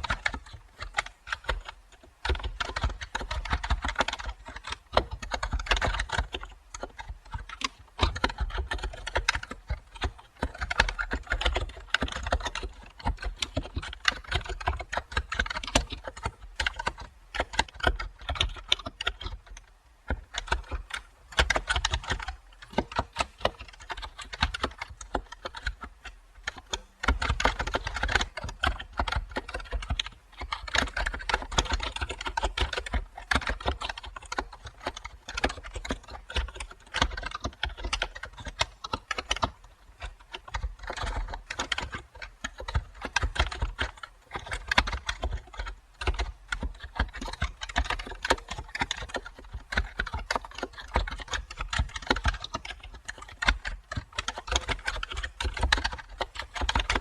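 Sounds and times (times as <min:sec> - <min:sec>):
typing on computer keyboard: 0:00.0 - 0:57.0.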